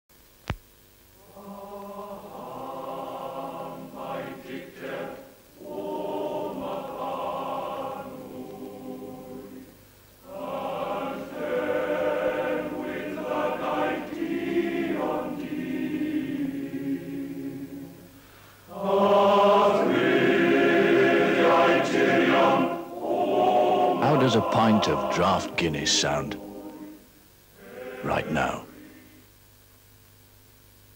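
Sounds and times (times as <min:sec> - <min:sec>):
male voice choir singing: 0:01.2 - 0:18.0, 0:18.7 - 0:29.2.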